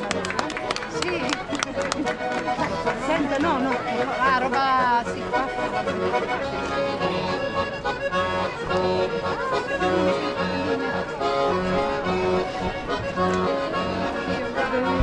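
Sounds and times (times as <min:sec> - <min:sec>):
accordion playing dance tune: 0:00.0 - 0:15.0.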